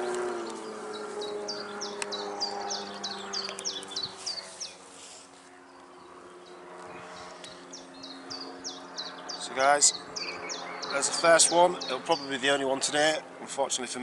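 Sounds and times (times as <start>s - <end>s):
bird chirping: 0.0s - 12.6s.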